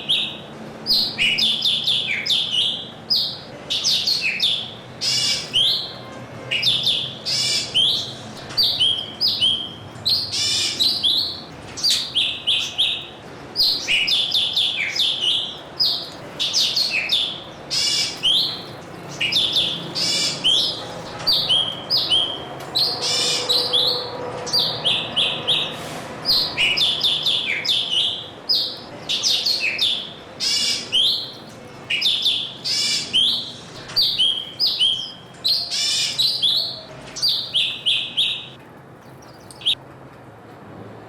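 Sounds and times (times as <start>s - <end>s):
songbirds chirping: 0.0s - 39.8s.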